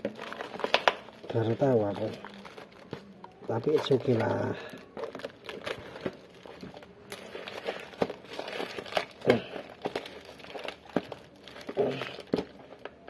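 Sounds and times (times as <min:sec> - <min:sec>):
cardboard and tape ripping: 0:00.0 - 0:13.0.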